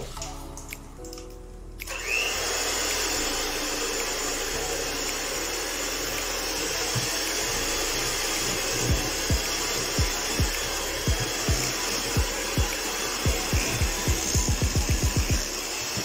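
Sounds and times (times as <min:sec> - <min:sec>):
electric hand mixer whirring: 0:01.8 - 0:16.0.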